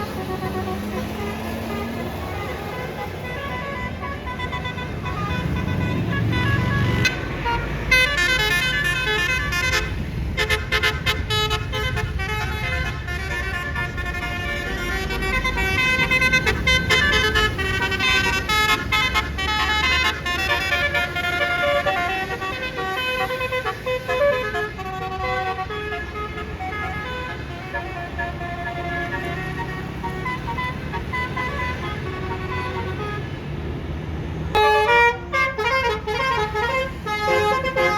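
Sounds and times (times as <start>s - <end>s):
musical bus horn melody: 0.0s - 33.7s, 34.5s - 37.9s
bus engine rumble: 0.0s - 37.9s.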